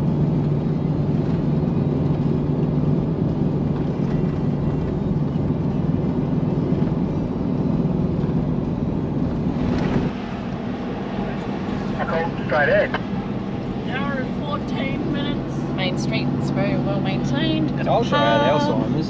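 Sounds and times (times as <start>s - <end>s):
tyre and road noise: 0.0s - 19.0s
vehicle engine hum: 0.0s - 19.0s.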